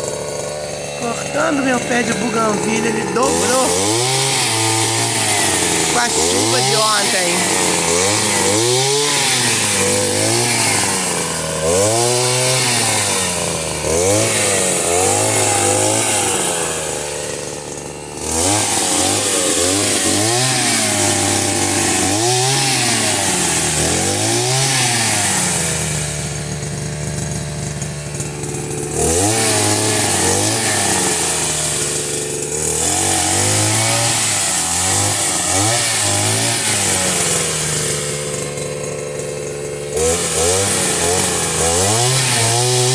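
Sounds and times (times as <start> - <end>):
chainsaw engine revving: 0.0 - 42.9.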